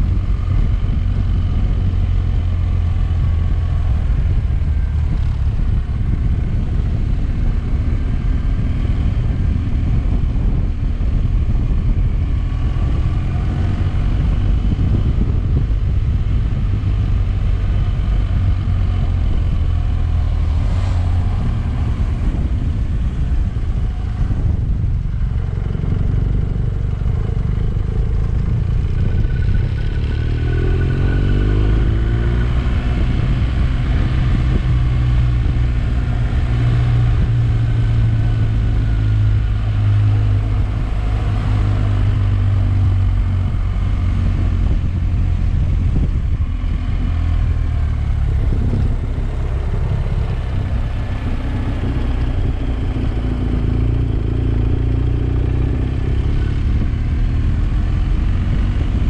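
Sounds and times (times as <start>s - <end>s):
motorcycle engine running: 0.0s - 59.0s
road rush: 0.0s - 59.0s.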